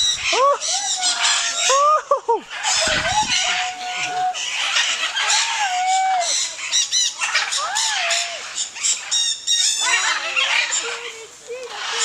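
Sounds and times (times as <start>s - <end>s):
birds squawking: 0.0s - 12.0s.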